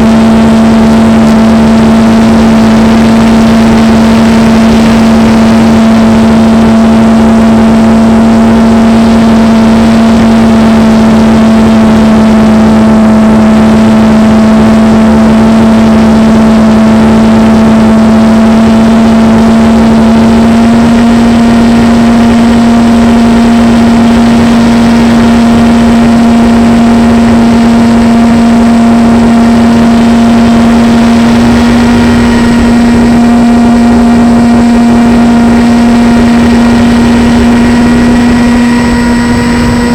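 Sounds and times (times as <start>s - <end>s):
model plane motor drone: 0.0s - 39.9s.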